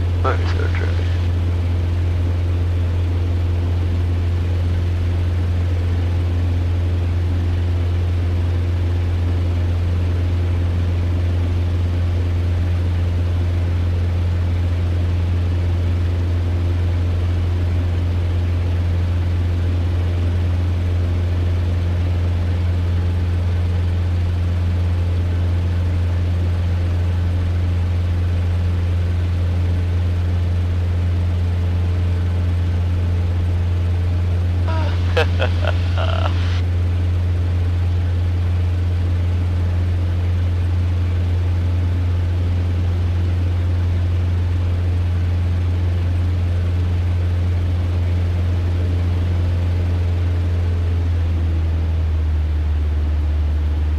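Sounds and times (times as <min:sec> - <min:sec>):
light aircraft engine droning: 0:00.0 - 0:53.9.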